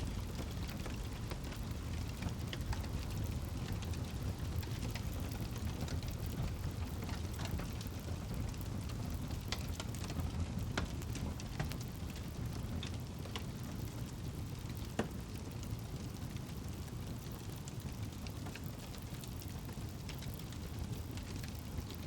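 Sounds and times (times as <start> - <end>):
flame rumbling: 0.0 - 22.0
wood crackling and popping: 0.0 - 22.0.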